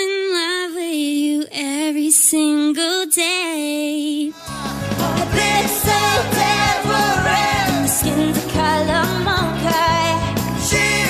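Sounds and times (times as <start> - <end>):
woman singing pop song: 0.0 - 11.0.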